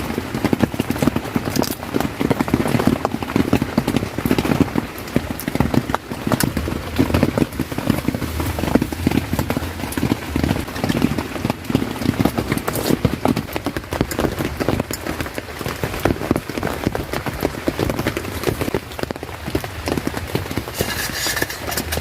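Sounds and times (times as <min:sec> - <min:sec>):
hiss of rainfall: 0:00.0 - 0:22.0
large raindrops pattering: 0:00.0 - 0:22.0.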